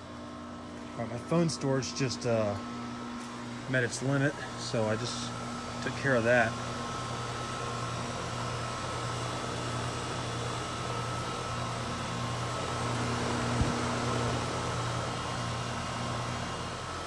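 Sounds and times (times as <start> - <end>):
compressor hum: 0.0 - 17.0
outdoor fan rushing: 0.0 - 17.0.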